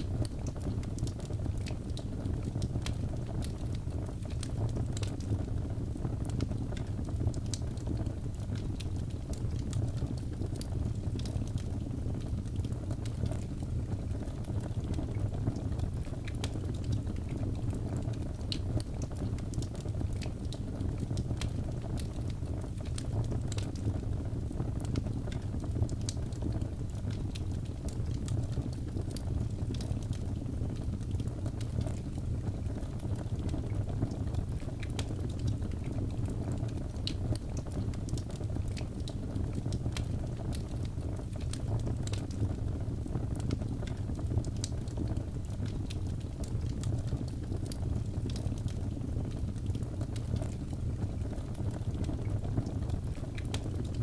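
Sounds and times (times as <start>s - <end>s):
fire popping and snapping: 0.0s - 54.0s
fire rumbling in fireplace: 0.0s - 54.0s.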